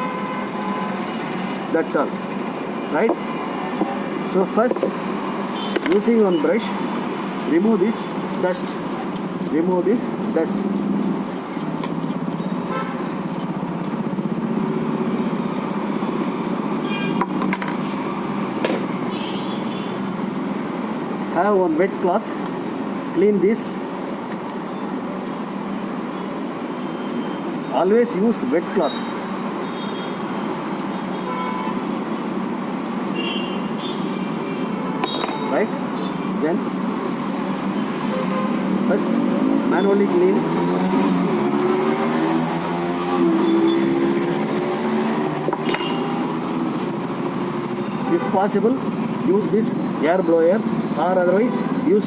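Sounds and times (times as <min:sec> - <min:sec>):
steady background noise: 0:00.0 - 0:52.0.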